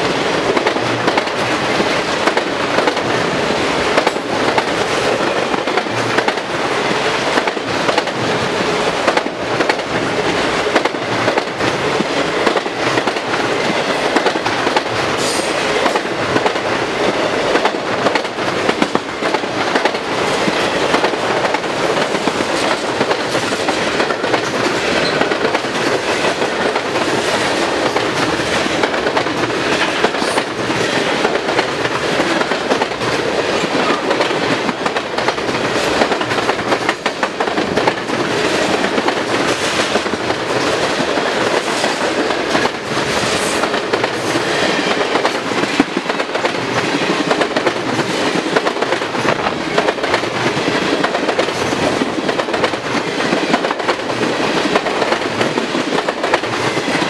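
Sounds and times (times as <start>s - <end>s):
wheels clacking over rail joints: 0.0s - 57.0s.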